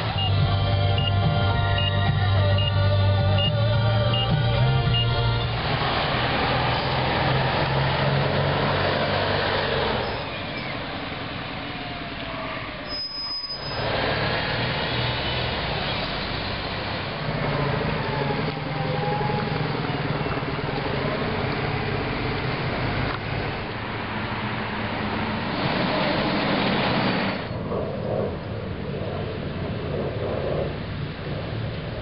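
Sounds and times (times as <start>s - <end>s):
bus engine driving past: 0.0s - 32.0s
other traffic: 0.0s - 32.0s
road and tyre noise: 0.0s - 32.0s.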